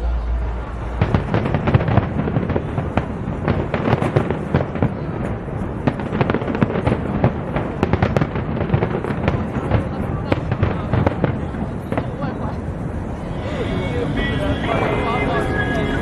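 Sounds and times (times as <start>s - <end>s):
continuous low rumble: 0.0s - 16.0s
fireworks crackles and bangs: 0.3s - 16.0s.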